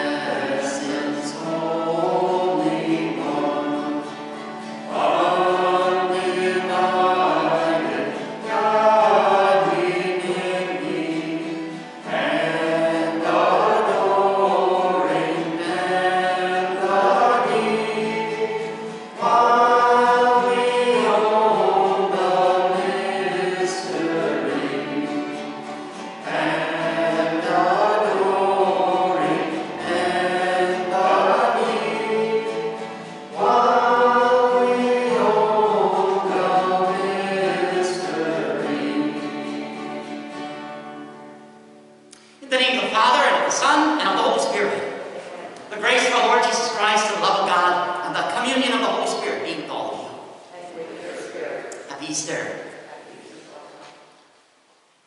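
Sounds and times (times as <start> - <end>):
choir singing a hymn: 0.0 - 41.9, 42.6 - 51.8.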